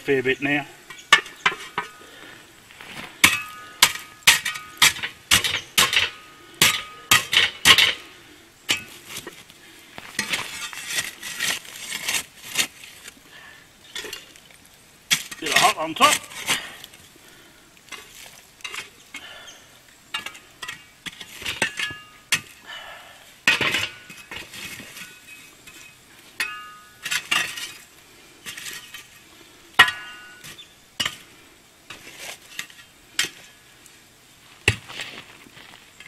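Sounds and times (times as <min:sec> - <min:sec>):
shovel scraping coals: 0:00.0 - 0:36.0.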